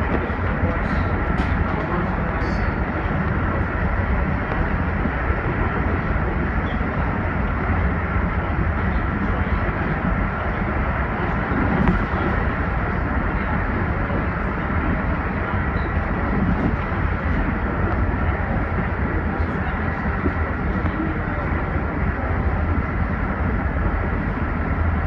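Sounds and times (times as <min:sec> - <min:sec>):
electric train low rumble: 0:00.0 - 0:25.0
faint steady whine: 0:00.0 - 0:25.0.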